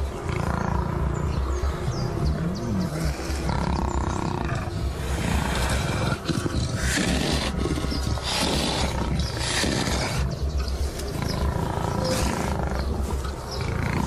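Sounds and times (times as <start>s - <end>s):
background music: 0.0s - 14.0s
big cats growling: 0.0s - 14.0s.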